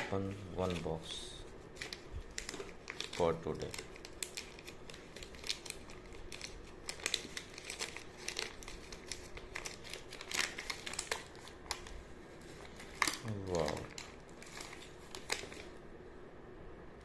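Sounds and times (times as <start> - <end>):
wrapping paper crinkling: 0.1 - 15.8.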